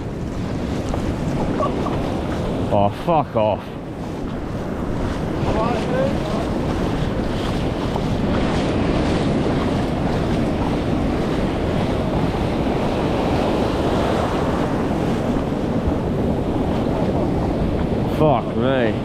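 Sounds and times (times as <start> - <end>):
waves and whitewater rushing: 0.0 - 19.0
wind buffeting microphone: 0.0 - 19.0.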